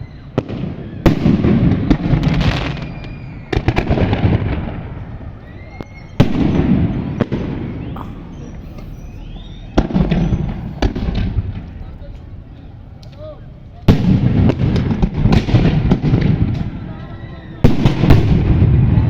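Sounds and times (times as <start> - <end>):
rising firework whistles: 0.0 - 11.8, 13.9 - 19.0
firework bangs: 0.0 - 12.5, 13.8 - 19.0
firework crackling: 0.0 - 19.0.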